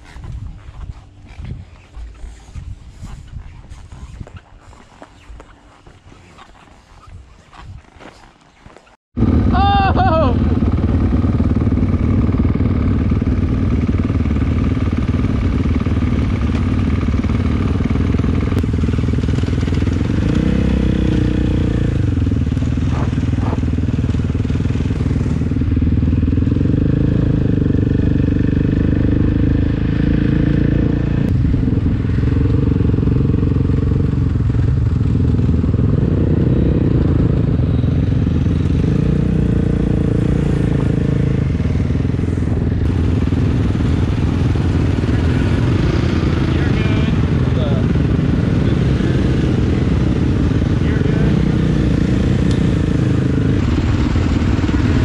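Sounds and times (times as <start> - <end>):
off-road vehicle engine: 0.0 - 55.0.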